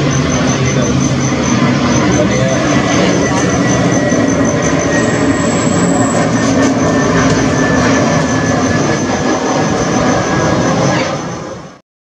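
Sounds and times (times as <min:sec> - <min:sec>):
high engine whines: 0:00.0 - 0:11.8
jet engines roaring: 0:00.0 - 0:11.8.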